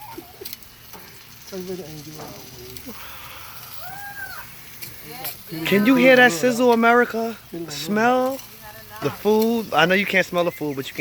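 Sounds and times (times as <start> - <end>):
food sizzling on a grill: 0.0 - 11.0
voices talking: 1.4 - 11.0.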